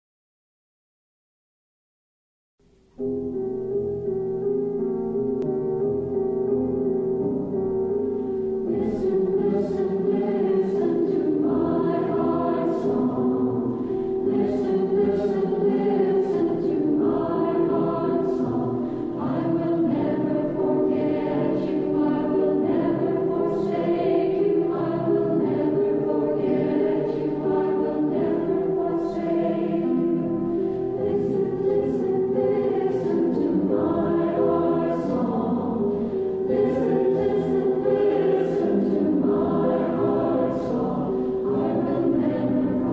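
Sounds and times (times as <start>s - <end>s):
church choir singing: 7.4s - 42.9s.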